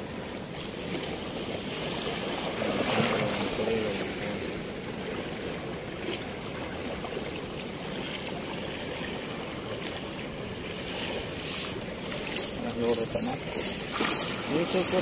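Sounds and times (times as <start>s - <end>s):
flowing river water: 0.0s - 15.0s
faint splashes: 0.6s - 12.9s.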